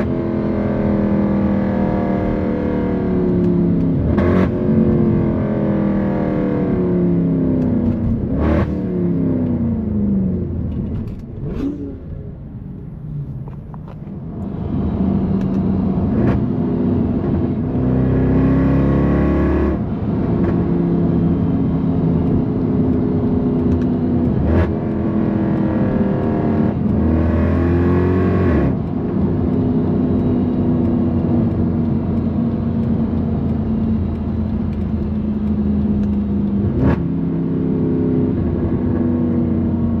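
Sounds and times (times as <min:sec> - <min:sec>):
car engine cruising and accelerating: 0:00.0 - 0:40.0.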